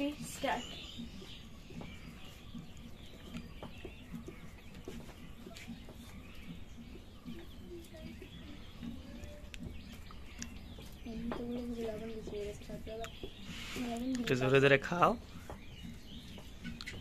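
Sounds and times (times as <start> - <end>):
birds calling faintly: 0.0 - 17.0.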